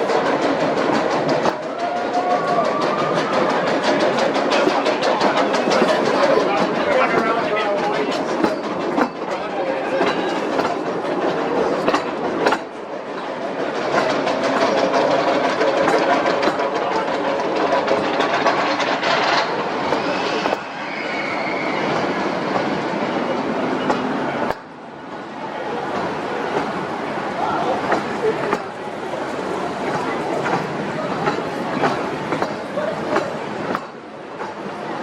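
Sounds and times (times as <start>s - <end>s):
ride train wheels clicking on rails: 0.0s - 35.0s.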